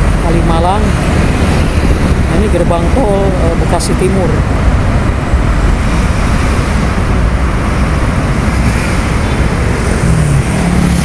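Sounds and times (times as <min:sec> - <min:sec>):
road traffic: 0:00.0 - 0:11.0
wind rumble on microphone: 0:00.0 - 0:11.0.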